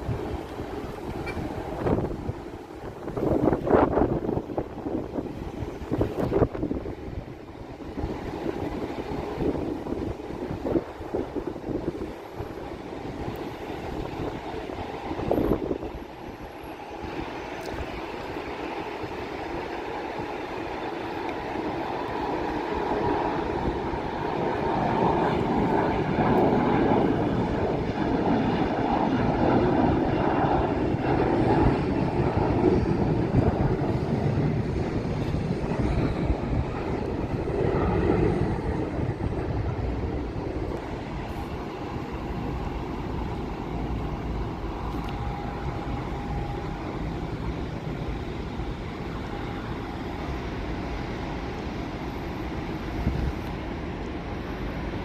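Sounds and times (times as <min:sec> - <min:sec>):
jet engines rushing past: 0:00.0 - 0:55.0.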